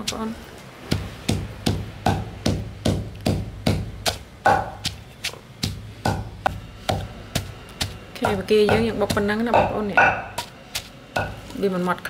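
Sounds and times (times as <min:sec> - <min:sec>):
mortar and pestle pounding: 0:00.0 - 0:11.7.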